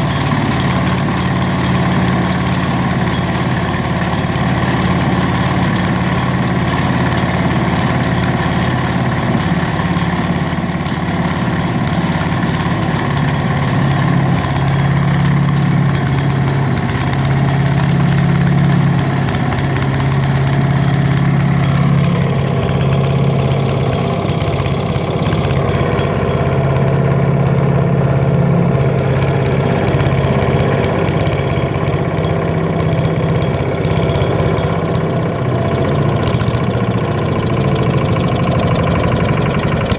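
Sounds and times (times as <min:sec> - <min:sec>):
wood chipper engine running: 0:00.0 - 0:39.9.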